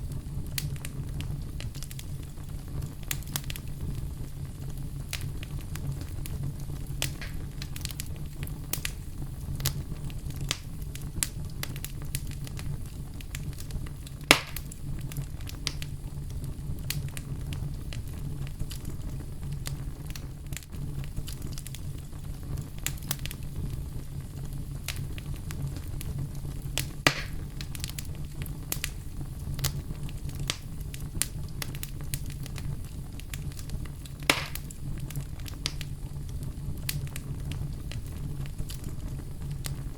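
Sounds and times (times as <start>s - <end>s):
loud fire pops: 0.0s - 39.9s
low rumble of fire: 0.0s - 39.9s
small fire crackles: 0.0s - 39.9s.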